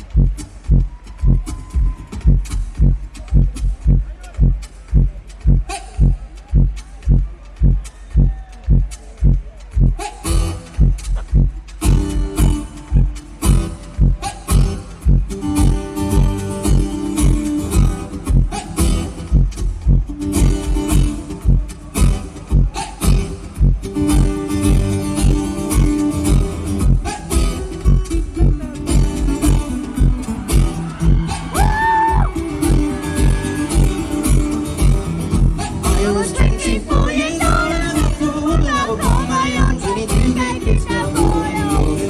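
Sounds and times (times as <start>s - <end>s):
amplified acoustic guitar: 0.0s - 42.0s
bass-heavy beat: 0.0s - 42.0s
live concert music through pa: 0.0s - 42.0s.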